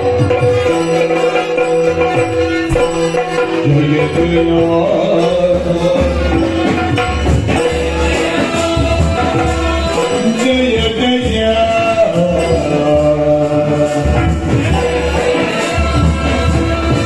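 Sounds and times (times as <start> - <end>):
drums beating: 0.0 - 17.0
person singing wavering melody: 0.0 - 17.0.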